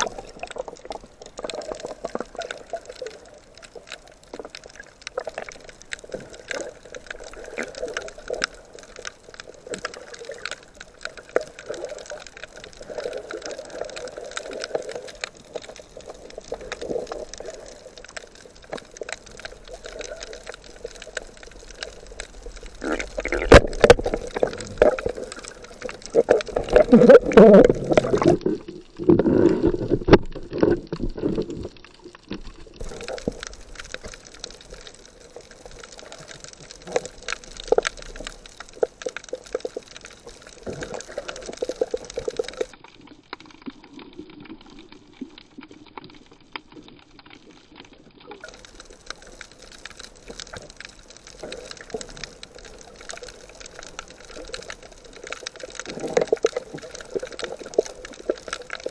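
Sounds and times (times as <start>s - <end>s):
crackly water noise: 0.0s - 58.9s
water sloshing and gurgling: 0.0s - 58.9s.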